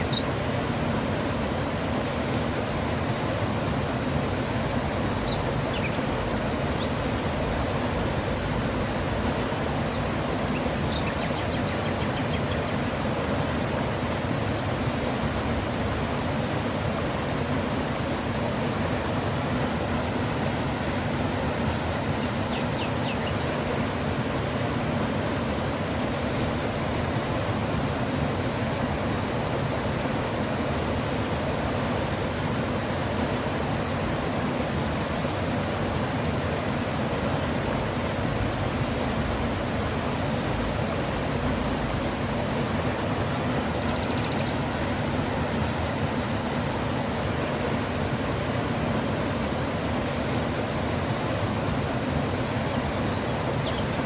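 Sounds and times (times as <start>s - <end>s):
insect chirping: 0.0s - 18.4s, 21.0s - 25.3s, 26.0s - 47.2s, 47.9s - 51.5s
river water rushing: 0.0s - 54.0s.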